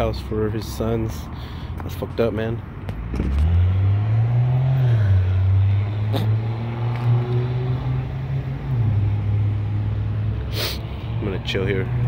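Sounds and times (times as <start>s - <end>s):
car engine humming: 1.2s - 12.0s.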